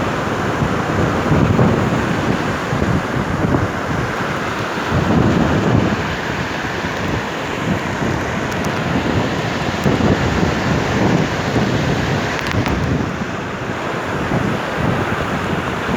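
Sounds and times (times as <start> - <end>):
sea surf: 0.0 - 15.9
wind on microphone: 0.0 - 15.9.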